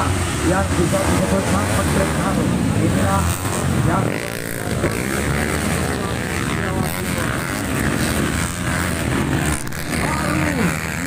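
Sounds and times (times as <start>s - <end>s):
motocross motorcycles racing: 0.0s - 11.0s.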